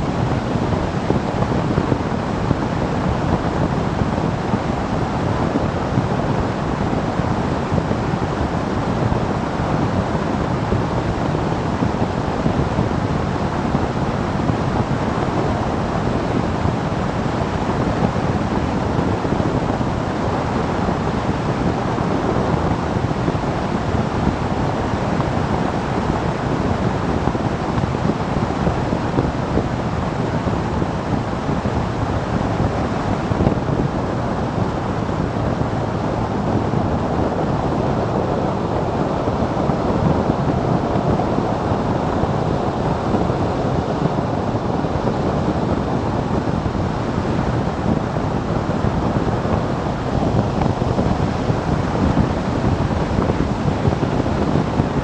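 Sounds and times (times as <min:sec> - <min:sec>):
motorcycle road and engine noise: 0:00.0 - 0:55.0
wind rushing over microphone: 0:00.0 - 0:55.0.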